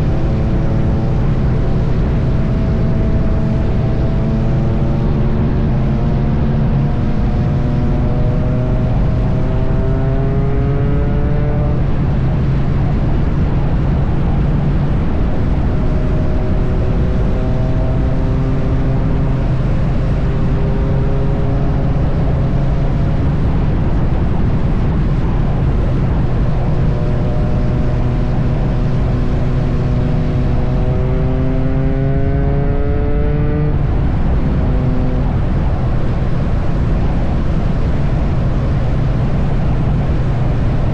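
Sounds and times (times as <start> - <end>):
road noise: 0.0 - 40.9
wind noise: 0.0 - 40.9.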